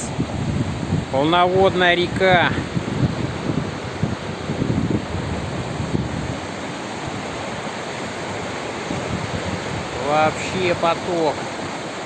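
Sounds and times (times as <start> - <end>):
river water rushing: 0.0 - 12.0
wind buffeting microphone: 0.0 - 12.0.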